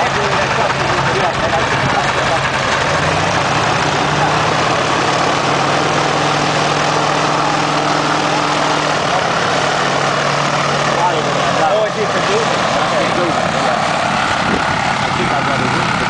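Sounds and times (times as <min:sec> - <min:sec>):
aircraft piston engine idling: 0:00.0 - 0:16.0.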